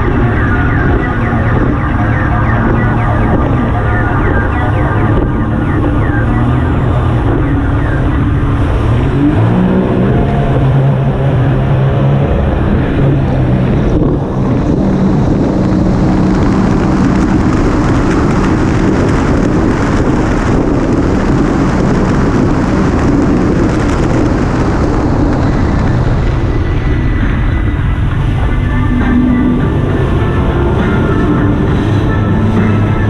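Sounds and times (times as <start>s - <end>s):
water rushing past hull: 0.0s - 33.0s
watercraft engine running: 0.0s - 33.0s
wind on microphone: 0.0s - 33.0s.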